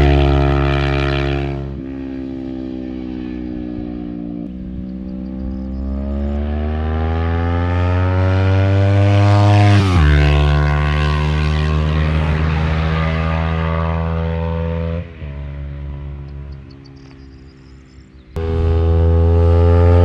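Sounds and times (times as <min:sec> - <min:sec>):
motorcycle engine revving past: 0:00.0 - 0:20.0.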